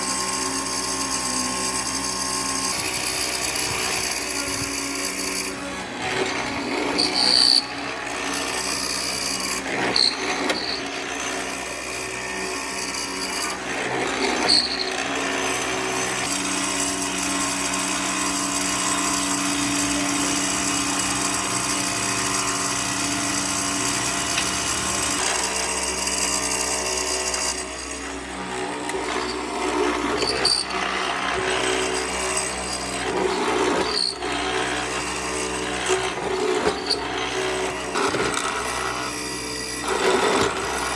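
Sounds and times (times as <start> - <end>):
power tool motor running: 0.0 - 40.9
tool working wood: 0.0 - 40.9.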